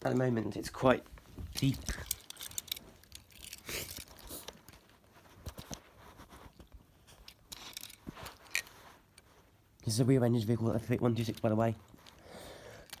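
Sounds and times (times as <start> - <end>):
plastic and card packaging rustling: 0.2 - 13.0.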